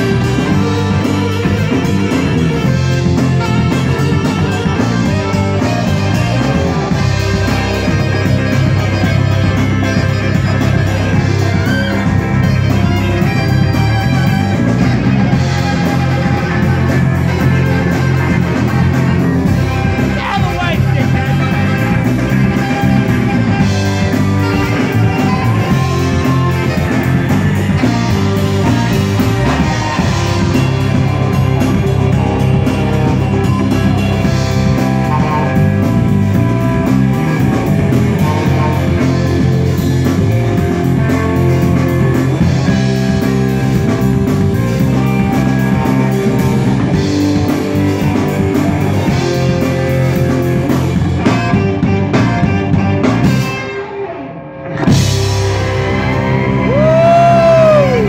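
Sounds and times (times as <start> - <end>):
bass guitar: 0.0 - 58.0
drum kit: 0.0 - 58.0
electric guitars: 0.0 - 58.0
saxophone: 0.0 - 58.0.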